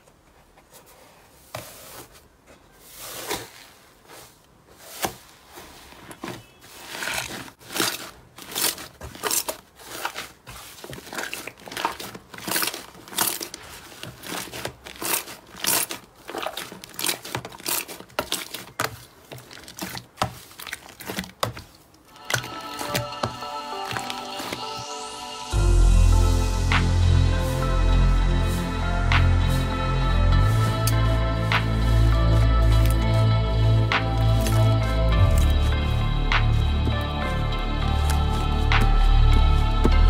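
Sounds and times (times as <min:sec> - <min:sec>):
slime crackling and squelching: 0:06.4 - 0:25.1, 0:26.6 - 0:40.0.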